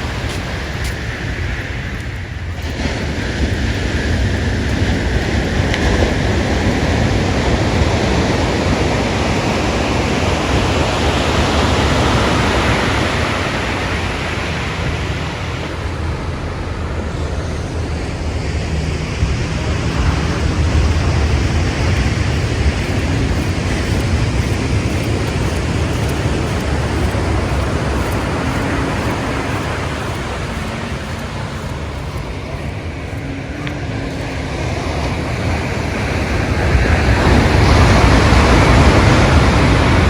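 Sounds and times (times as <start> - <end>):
ocean surf washing ashore: 0.0 - 40.0
wind rumble on microphone: 0.0 - 40.0.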